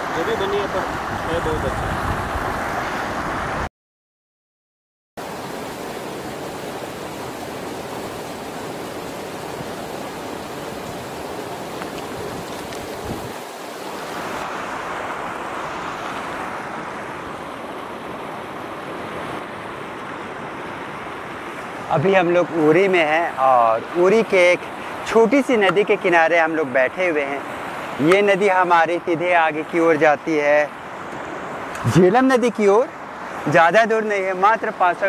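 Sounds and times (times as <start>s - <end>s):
stream rushing over rocks: 0.0s - 3.6s, 5.2s - 35.0s.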